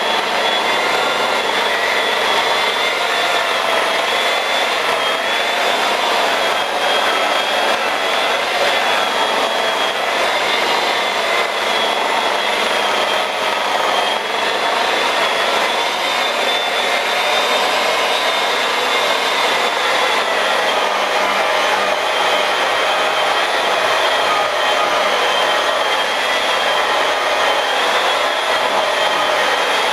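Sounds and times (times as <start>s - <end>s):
electric polisher whining: 0.0s - 29.9s.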